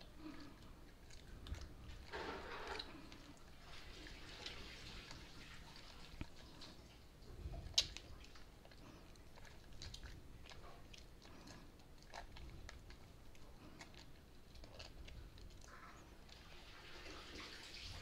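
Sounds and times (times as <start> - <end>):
soapy hands squishing: 0.0 - 18.0.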